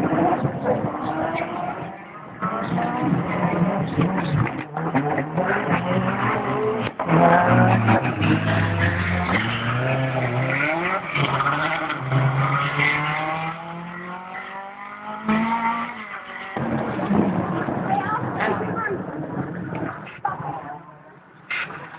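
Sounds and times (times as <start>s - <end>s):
rally car engines revving: 0.0s - 21.9s.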